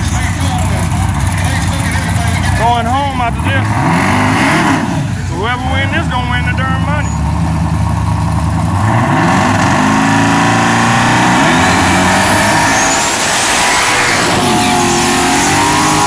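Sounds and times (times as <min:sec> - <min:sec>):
drag car engine revving: 0:00.0 - 0:16.0.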